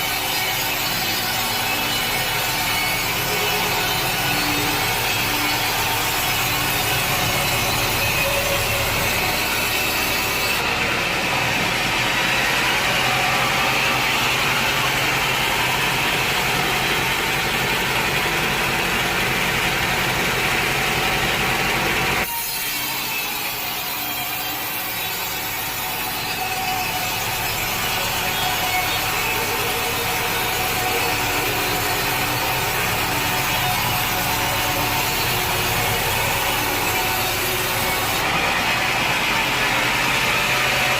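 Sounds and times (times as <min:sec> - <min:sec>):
saw cutting through wood: 0:00.0 - 0:40.9.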